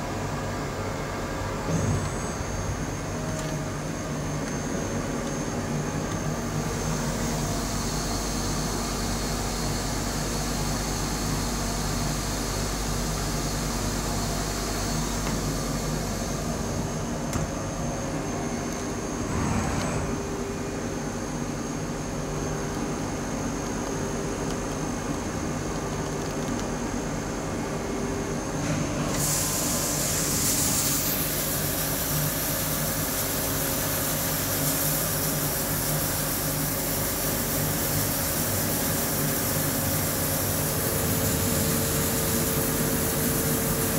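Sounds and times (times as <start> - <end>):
machine hum with high whine: 0.0 - 43.9.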